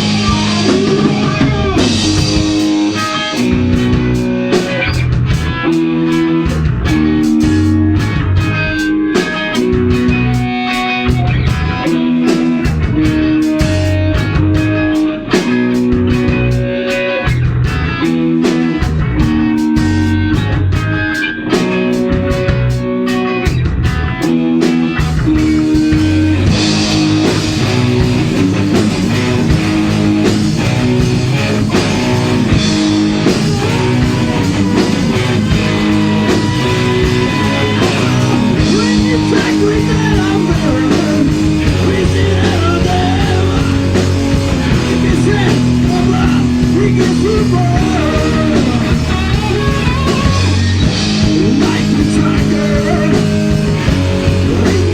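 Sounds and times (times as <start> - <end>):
heavy metal band playing: 0.0 - 54.9
lead guitar bending in pitch: 0.0 - 54.9.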